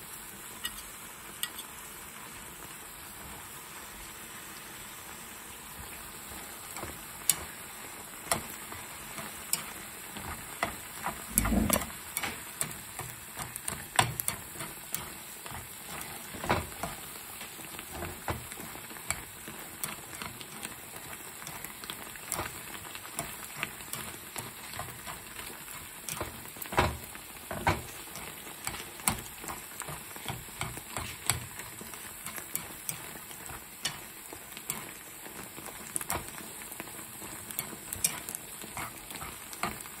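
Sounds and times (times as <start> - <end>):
food sizzling in a skillet: 0.0 - 40.0
tongs clicking and scraping pan: 0.6 - 1.8, 6.3 - 40.0.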